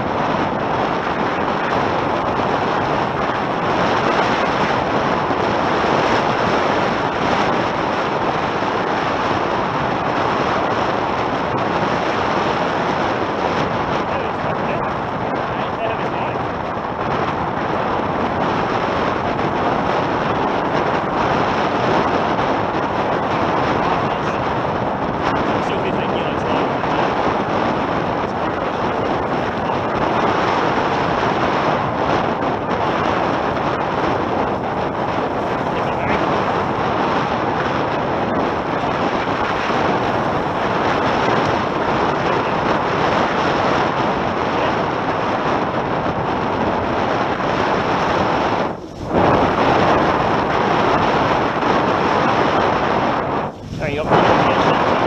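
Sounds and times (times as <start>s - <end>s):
water rushing past hulls: 0.0s - 55.0s
wind buffeting microphone: 0.0s - 55.0s.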